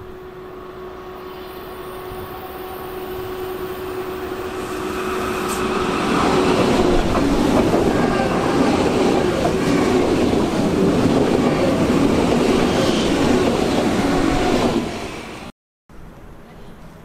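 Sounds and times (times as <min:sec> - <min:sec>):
train passing: 0:00.0 - 0:15.5
wheel and rail noise: 0:00.0 - 0:15.5.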